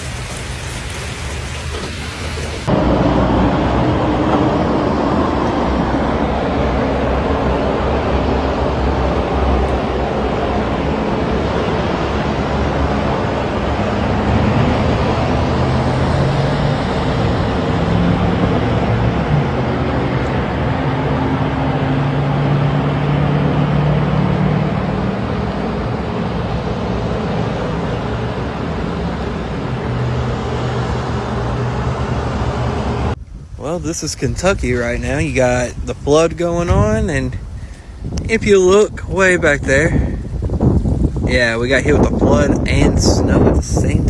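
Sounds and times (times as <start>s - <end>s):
road noise: 0.0s - 44.0s
vehicle engine hum: 0.0s - 44.0s.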